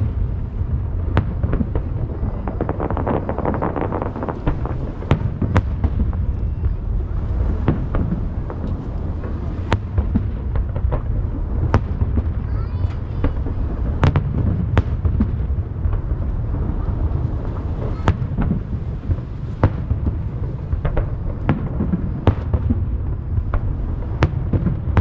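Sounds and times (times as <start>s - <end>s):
echoing low rumble: 0.0s - 24.2s
fireworks bangs: 0.0s - 25.0s
fireworks crackling: 0.0s - 25.0s.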